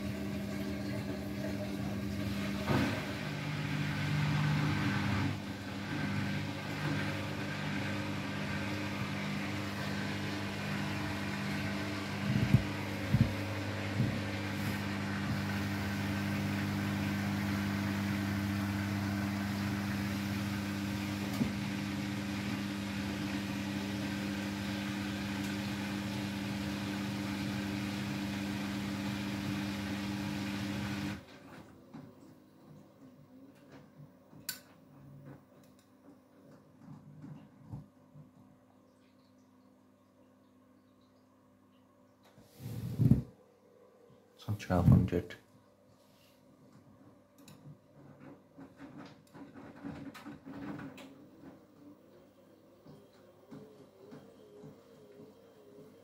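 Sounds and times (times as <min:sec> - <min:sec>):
washing machine spinning: 0:00.0 - 0:39.9, 0:47.0 - 0:56.0.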